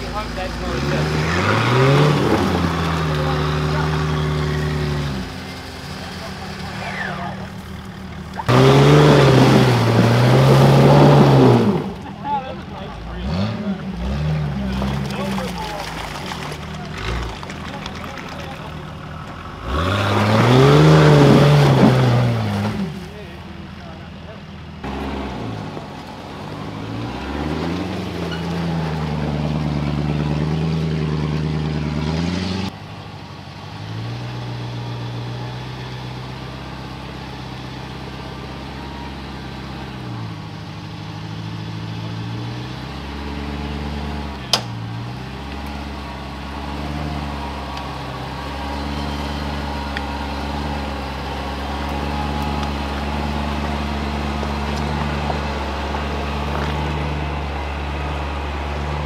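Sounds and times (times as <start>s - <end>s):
engine revving: 0.0s - 59.0s.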